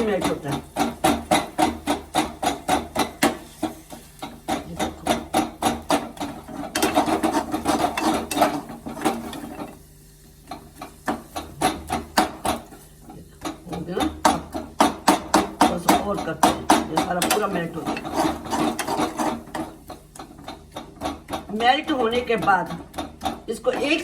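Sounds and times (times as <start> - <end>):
spatula scraping a metal pan: 0.0 - 22.2.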